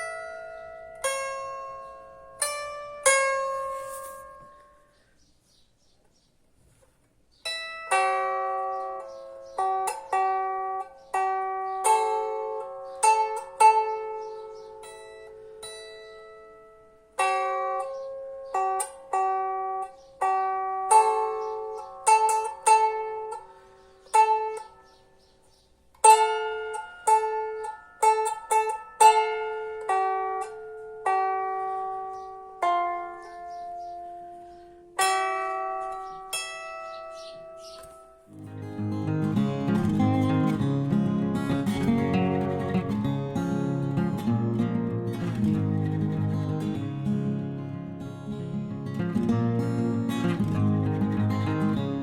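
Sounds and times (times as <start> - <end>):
lyre plucked melody: 0.0 - 6.3, 7.2 - 52.0.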